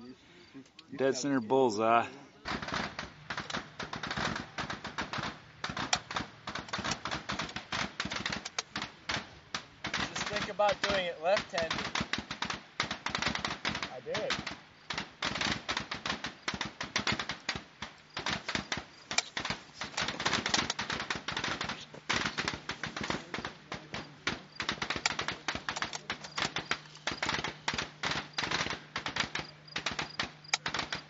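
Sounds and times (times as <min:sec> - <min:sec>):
rifle shots crackling: 0:01.1 - 0:31.0.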